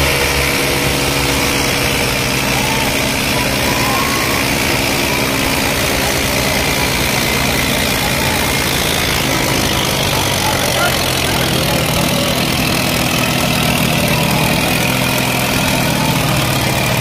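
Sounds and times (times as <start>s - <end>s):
crowd noise: 0.0s - 17.0s
tractor engines droning: 0.0s - 17.0s.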